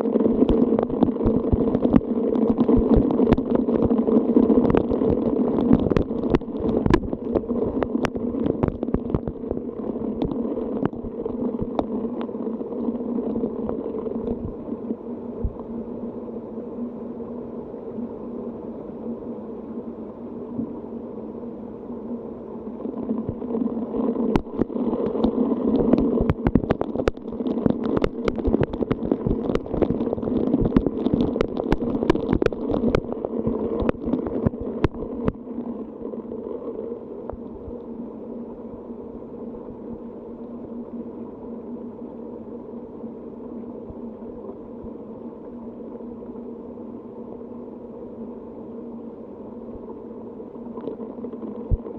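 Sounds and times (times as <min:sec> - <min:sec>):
low steady hum: 0:00.0 - 0:51.9.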